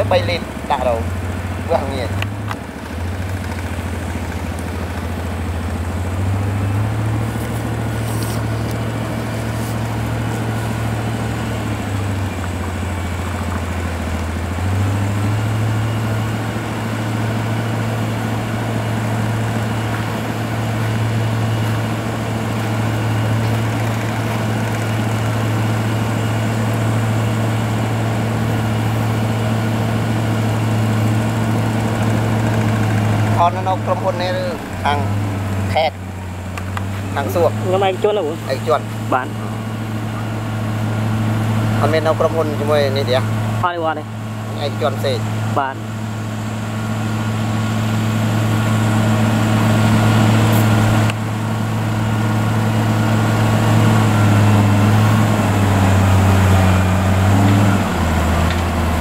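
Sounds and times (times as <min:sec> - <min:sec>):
motor grader diesel engine: 0:00.0 - 0:59.0
road roller engine: 0:00.0 - 0:59.0.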